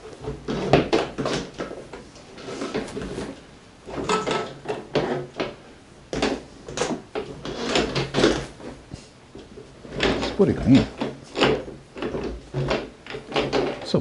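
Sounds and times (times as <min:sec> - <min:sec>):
tools clattering and scraping: 0:00.2 - 0:14.0.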